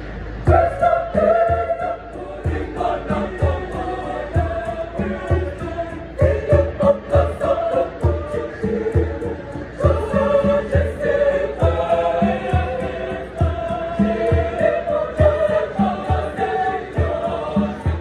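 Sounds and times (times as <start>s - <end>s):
girls' choir singing a hymn: 0.0s - 18.0s
steady low beat: 0.0s - 18.0s.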